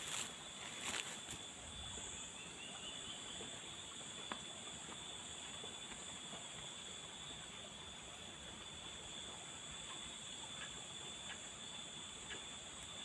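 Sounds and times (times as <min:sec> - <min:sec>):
forest insects calling: 0:00.0 - 0:13.0.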